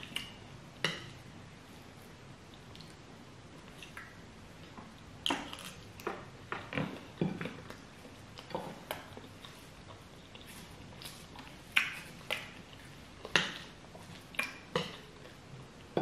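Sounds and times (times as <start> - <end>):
chewing: 2.4 - 3.0, 3.6 - 16.0.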